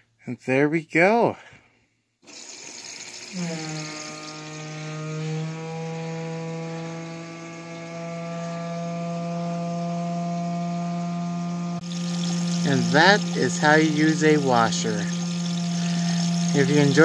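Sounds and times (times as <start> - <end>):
water running into drum: 2.2 - 17.0
washing machine hum: 2.3 - 17.0.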